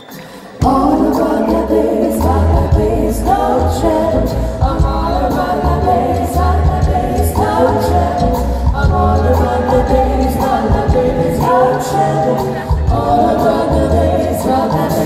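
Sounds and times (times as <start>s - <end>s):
drums: 0.0s - 15.0s
voices singing together: 0.6s - 15.0s
walking upright double bass: 2.2s - 14.9s.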